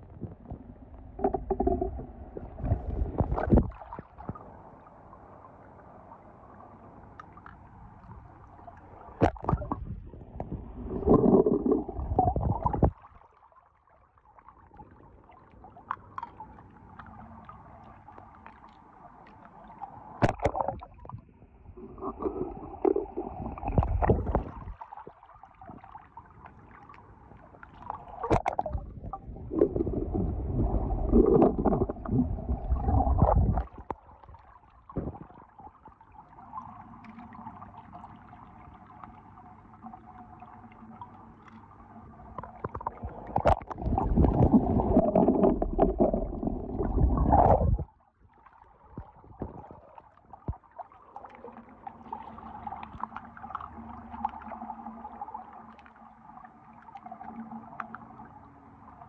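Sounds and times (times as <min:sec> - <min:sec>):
pool water sloshing and gurgling: 0:00.0 - 0:59.0.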